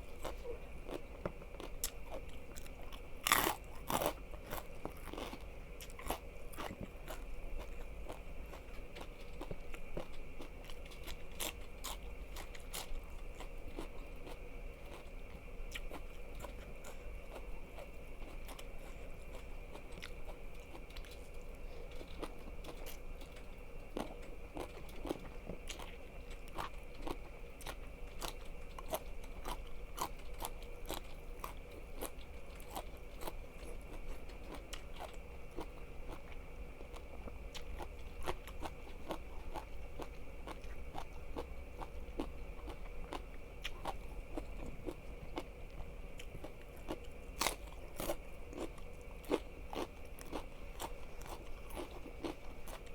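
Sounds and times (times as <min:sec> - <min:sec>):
chewing crunchy food: 0:00.0 - 0:52.9
faint steady hum: 0:00.0 - 0:52.9.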